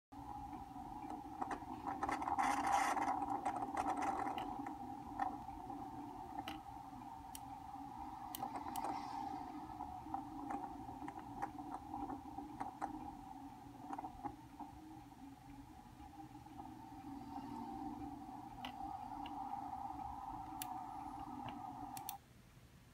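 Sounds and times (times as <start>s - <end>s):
steady hum: 0.1s - 22.9s
small clicks: 0.4s - 22.2s.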